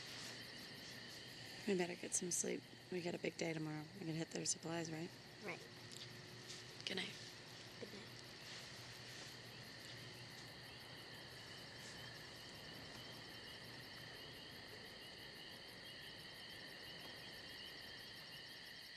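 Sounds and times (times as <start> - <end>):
night insects chirring: 0.0 - 18.9.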